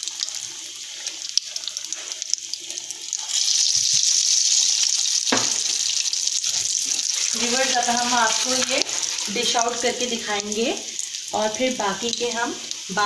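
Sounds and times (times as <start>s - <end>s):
doughnut frying in oil: 0.0s - 13.0s.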